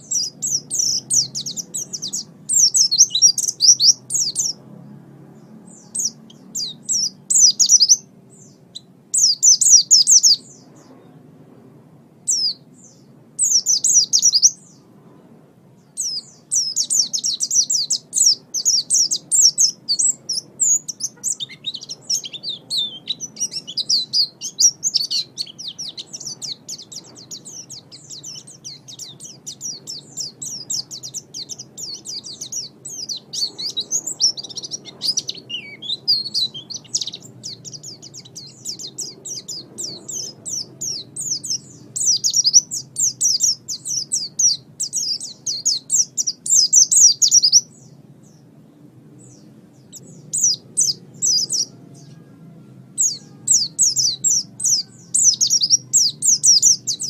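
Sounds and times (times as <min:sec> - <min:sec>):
songbird twittering: 0:00.0 - 0:11.2, 0:12.2 - 0:14.9, 0:15.8 - 0:48.5, 0:49.1 - 0:52.3, 0:52.9 - 0:57.0
faint low hum: 0:00.0 - 0:57.0.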